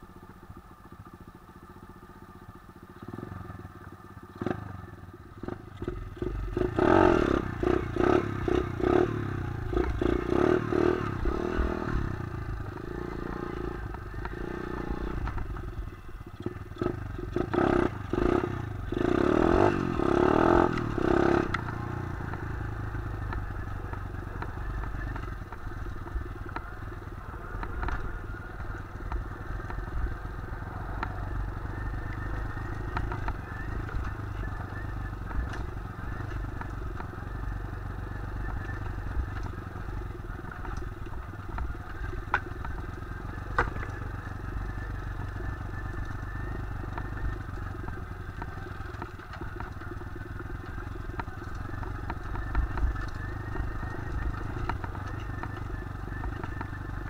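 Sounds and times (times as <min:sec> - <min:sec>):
motorbike engine revving: 0:04.3 - 0:57.0.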